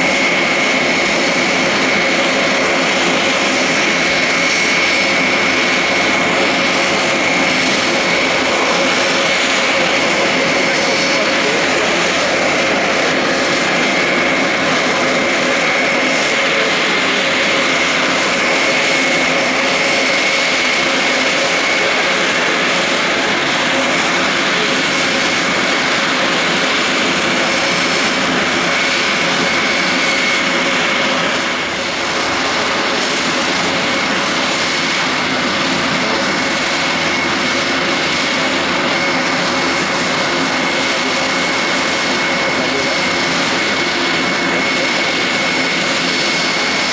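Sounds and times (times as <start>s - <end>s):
propeller aircraft engine running: 0.0s - 46.9s.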